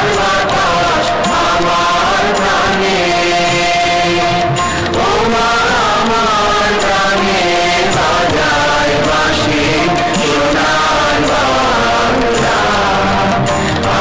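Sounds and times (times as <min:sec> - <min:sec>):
instrumental accompaniment: 0:00.0 - 0:14.0
voices singing together: 0:00.0 - 0:14.0.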